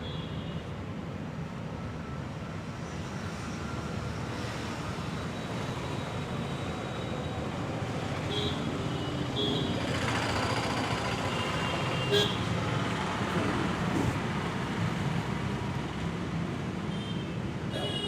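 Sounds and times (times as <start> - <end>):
street traffic hum: 0.1 - 18.0.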